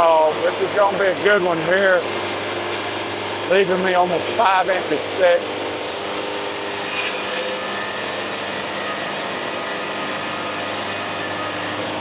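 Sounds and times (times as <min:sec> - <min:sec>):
band sawmill cutting log: 0:00.0 - 0:12.0.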